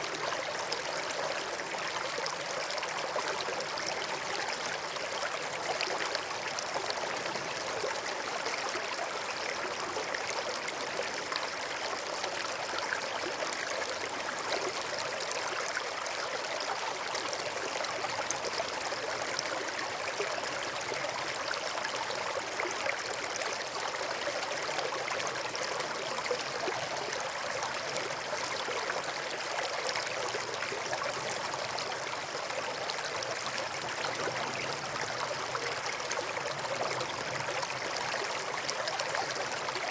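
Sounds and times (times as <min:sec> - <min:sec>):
brook running water babbling: 0:00.0 - 0:39.9.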